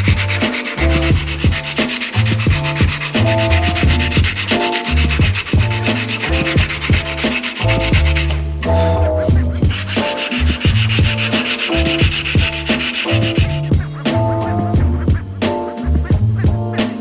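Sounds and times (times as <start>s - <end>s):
sandpaper rasping on steel: 0.0s - 13.7s
music with kick drums and bass: 0.0s - 17.0s.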